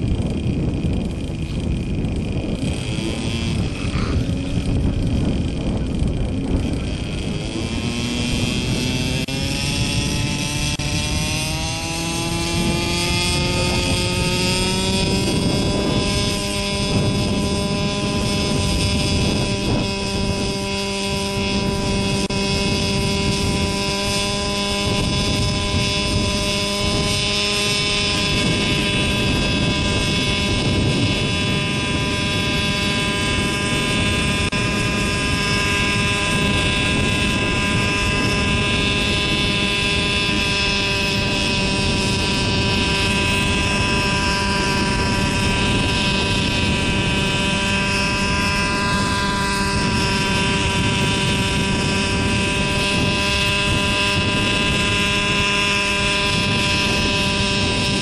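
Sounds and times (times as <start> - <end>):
model helicopter engine running: 0.0 - 58.0
rotors turning: 0.0 - 58.0.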